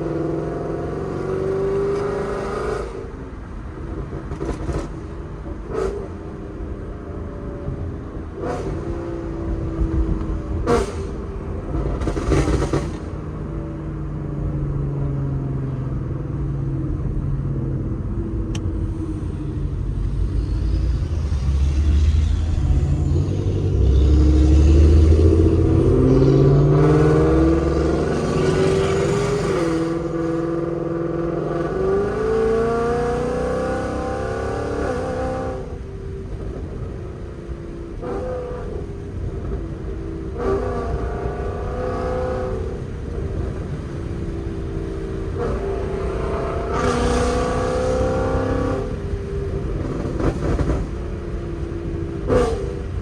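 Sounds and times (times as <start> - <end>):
car engine accelerating through gears: 0.0 - 53.0.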